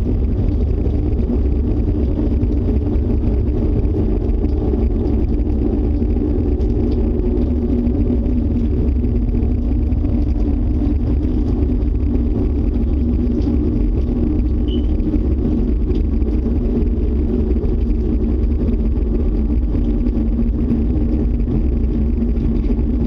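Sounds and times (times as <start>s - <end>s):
loud low rumble: 0.0s - 23.0s.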